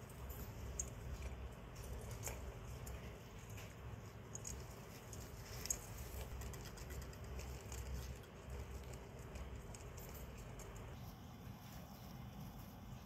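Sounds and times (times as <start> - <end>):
hamsters rustling in wood shavings: 0.0 - 13.0.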